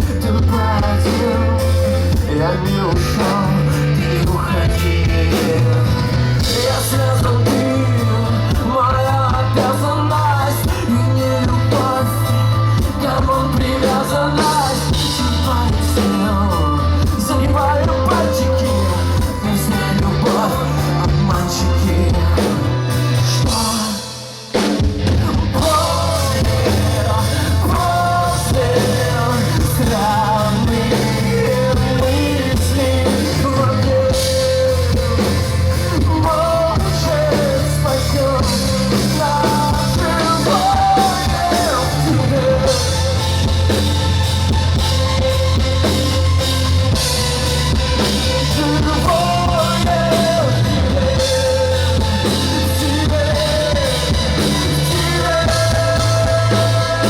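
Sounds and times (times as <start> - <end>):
live rock band playing: 0.0 - 57.0
man singing lead vocals: 0.0 - 57.0.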